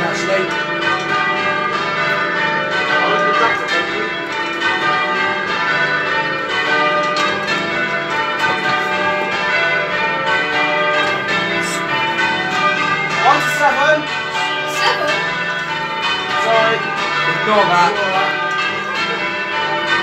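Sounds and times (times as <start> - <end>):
church bells ringing in sequence: 0.0 - 20.0.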